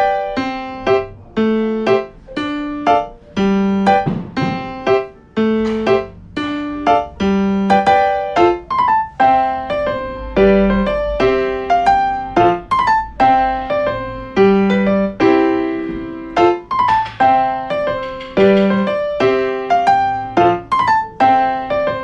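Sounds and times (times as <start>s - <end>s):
light piano melody: 0.0s - 22.0s.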